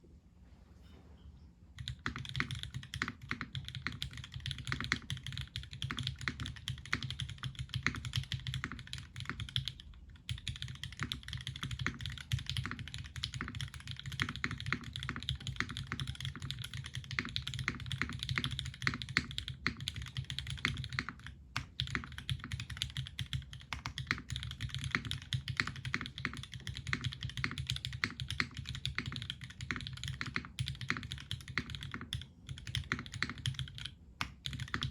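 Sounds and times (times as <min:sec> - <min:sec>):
typing on mechanical keyboard: 0:01.8 - 0:34.9.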